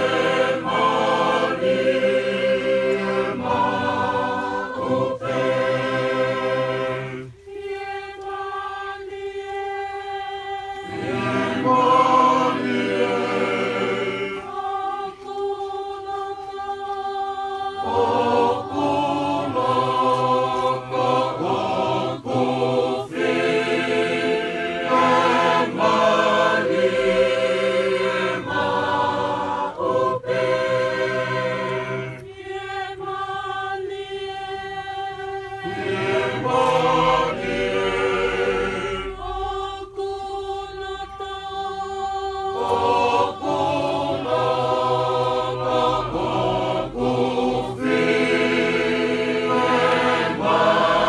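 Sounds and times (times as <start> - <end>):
choir singing a hymn: 0.0 - 51.0.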